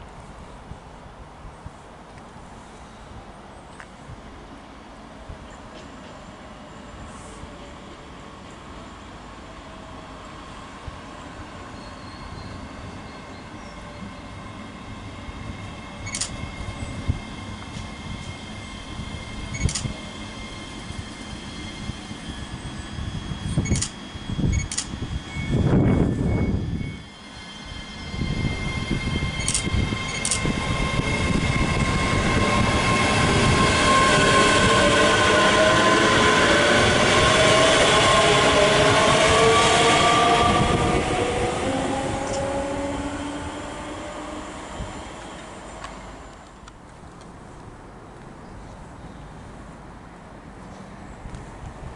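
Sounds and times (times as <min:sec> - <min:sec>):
electric train hum and whine: 0:00.0 - 0:51.9.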